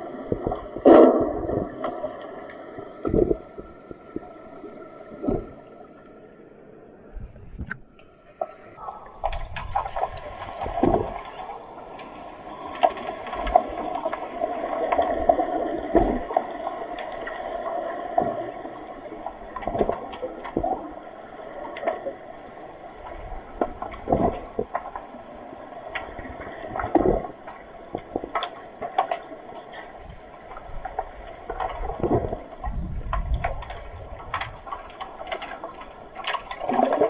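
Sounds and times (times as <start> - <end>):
sharp clicks and knocks underwater: 0.0 - 6.1, 7.5 - 37.0
muffled underwater rush: 0.0 - 37.0.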